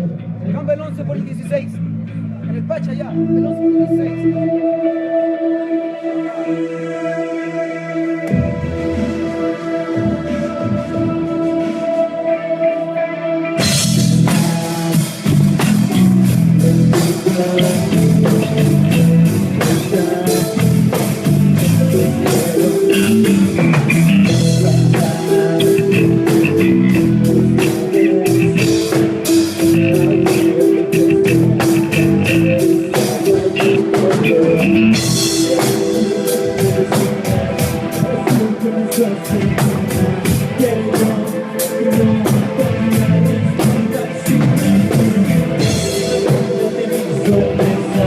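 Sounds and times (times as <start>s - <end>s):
rock band playing live: 8.2s - 48.0s.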